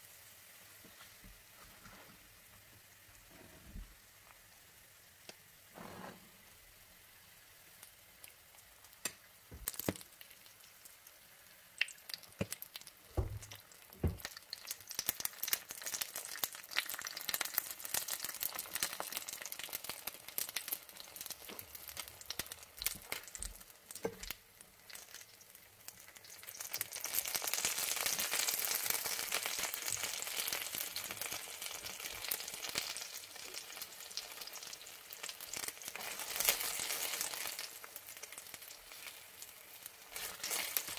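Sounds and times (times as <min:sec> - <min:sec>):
food frying in hot oil: 0:06.4 - 0:40.9.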